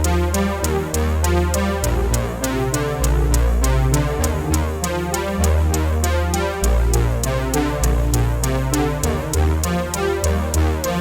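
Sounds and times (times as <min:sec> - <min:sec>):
deep bass: 0:00.0 - 0:11.0
synthesizer chords: 0:00.0 - 0:11.0
ticking beat: 0:01.8 - 0:11.0.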